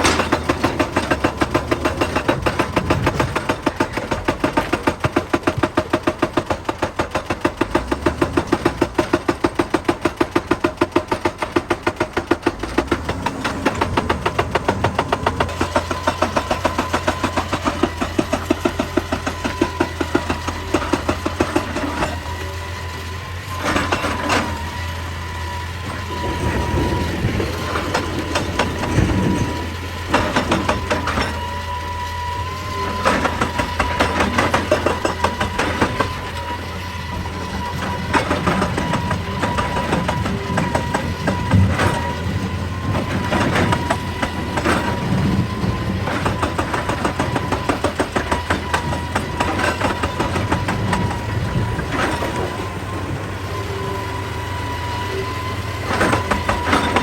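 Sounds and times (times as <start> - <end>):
diesel engine drone: 0.0 - 57.0
hydraulic rock breaker hammering rock: 0.0 - 57.0.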